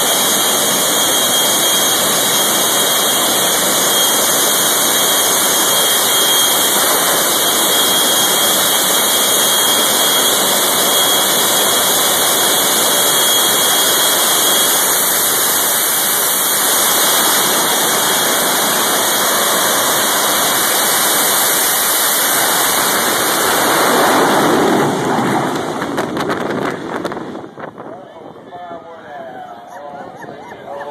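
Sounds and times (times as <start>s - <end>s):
turbine engine rushing: 0.0s - 30.9s.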